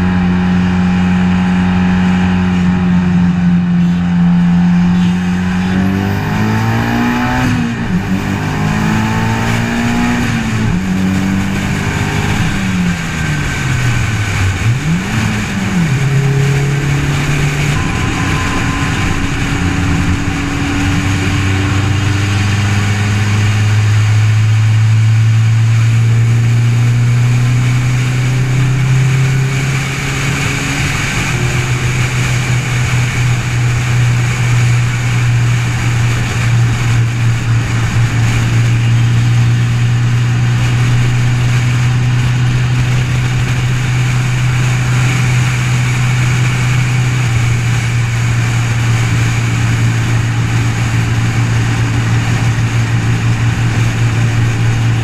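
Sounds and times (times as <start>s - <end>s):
car engine droning: 0.0s - 55.0s
wind and road noise: 0.0s - 55.0s.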